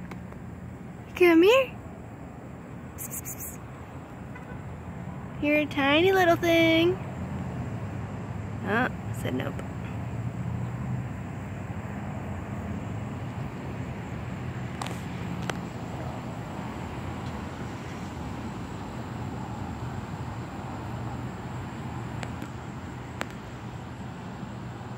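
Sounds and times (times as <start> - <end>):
distant road traffic: 0.0 - 24.9.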